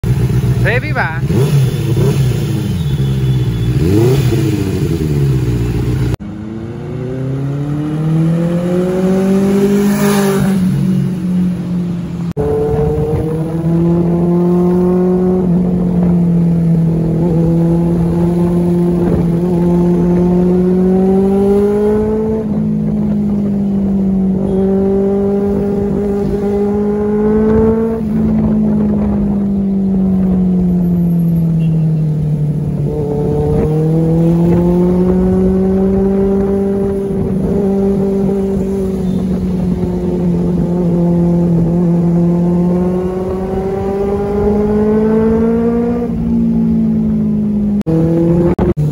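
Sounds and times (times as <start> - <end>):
motorcycle engine revving: 0.0 - 48.9
motorcycle accelerating under way: 0.1 - 48.9.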